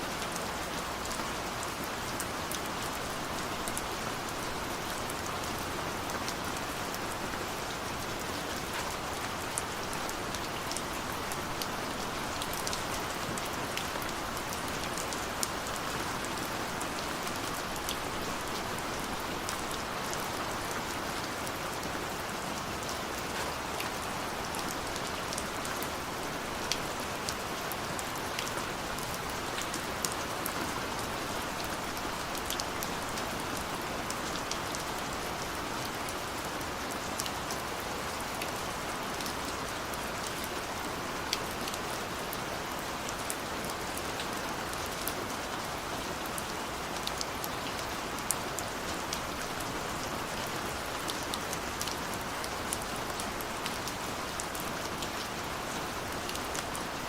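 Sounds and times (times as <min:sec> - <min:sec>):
rain hissing on a window: 0:00.0 - 0:57.0.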